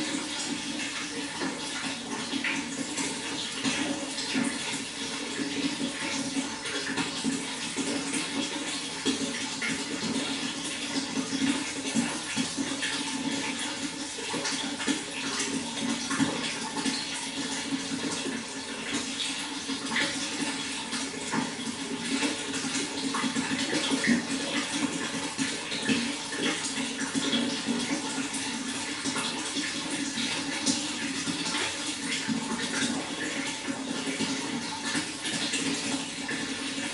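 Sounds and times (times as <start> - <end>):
water flowing and splashing: 0.0 - 36.9.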